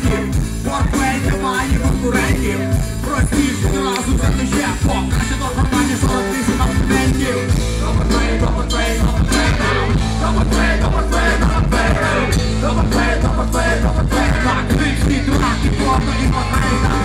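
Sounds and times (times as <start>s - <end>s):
bass guitar: 0.0s - 17.0s
drums: 0.0s - 17.0s
keyboard: 0.0s - 17.0s
live rock band playing: 0.0s - 17.0s
trumpet and trombone: 0.0s - 17.0s.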